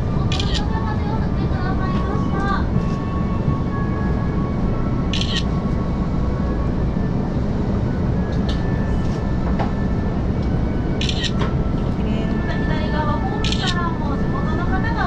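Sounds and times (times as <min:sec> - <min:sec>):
diesel train rumble: 0:00.0 - 0:15.0.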